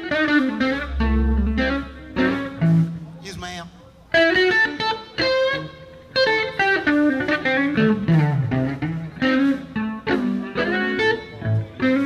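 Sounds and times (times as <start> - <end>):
electric guitar blues phrases: 0.0 - 12.0.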